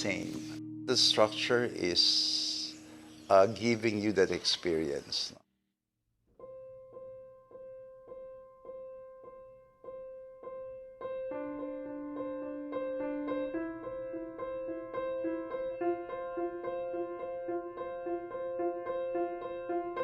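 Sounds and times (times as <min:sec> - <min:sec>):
piano music: 0:00.0 - 0:05.0, 0:06.4 - 0:20.0.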